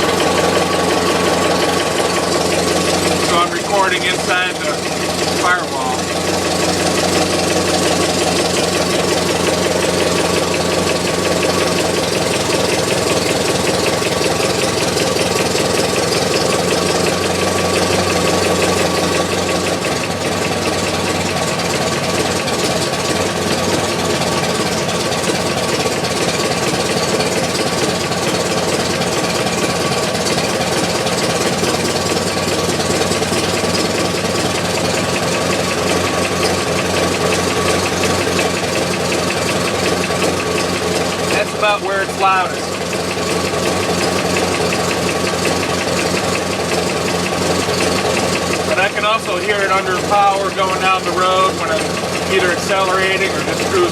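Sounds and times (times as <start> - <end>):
car engine idling: 0.0 - 53.9
rapid engine knocking tick: 0.0 - 53.9.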